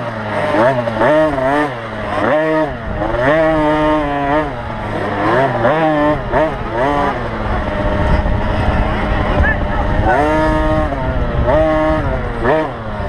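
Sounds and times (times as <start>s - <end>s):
motocross bike engines revving: 0.0s - 13.0s
steady low engine note: 0.0s - 13.0s.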